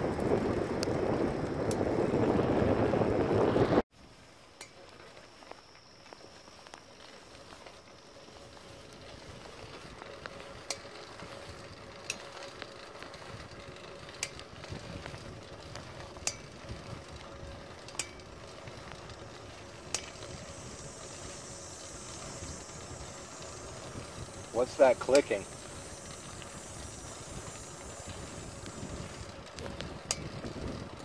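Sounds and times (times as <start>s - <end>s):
sharp drivetrain clicking: 0.0s - 3.8s, 4.6s - 31.0s
bicycle drivetrain running: 0.0s - 31.0s.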